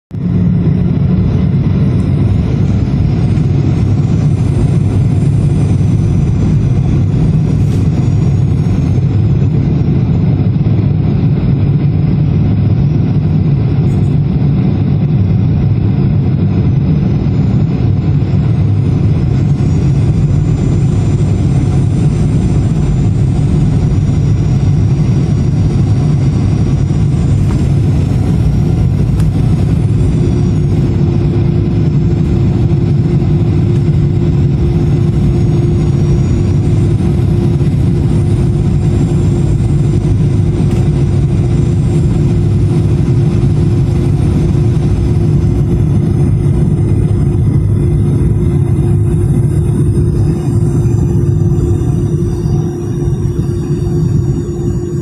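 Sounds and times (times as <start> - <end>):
high engine whine: 0.0 - 55.0
jet engines roaring: 0.1 - 55.0.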